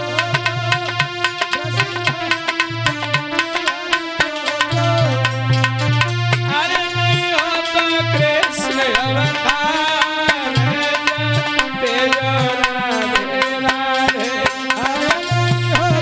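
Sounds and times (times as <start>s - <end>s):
melody with bending notes: 0.0s - 13.7s
hand drum beat: 0.0s - 16.0s.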